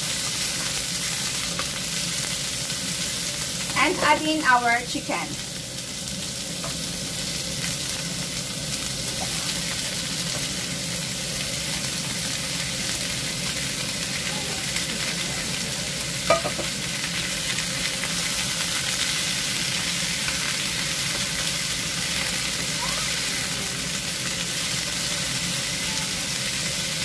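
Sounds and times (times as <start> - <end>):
food sizzling in frying pan: 0.0 - 27.0.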